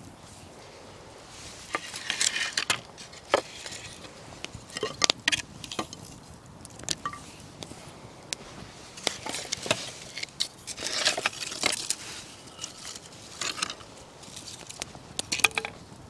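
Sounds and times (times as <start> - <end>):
branches rustling and knocking: 0.0 - 15.8
campfire crackling and popping: 0.0 - 16.0.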